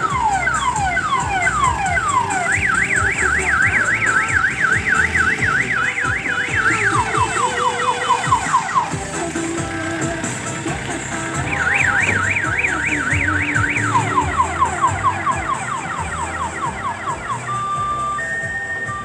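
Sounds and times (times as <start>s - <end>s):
electronic siren wailing: 0.0s - 19.0s
low diesel engine rumble: 0.0s - 19.0s.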